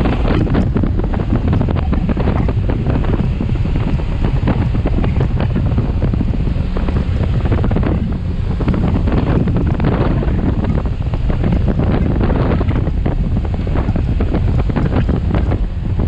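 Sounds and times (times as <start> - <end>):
low rumble: 0.0 - 16.0
wind buffeting microphone: 0.0 - 16.0.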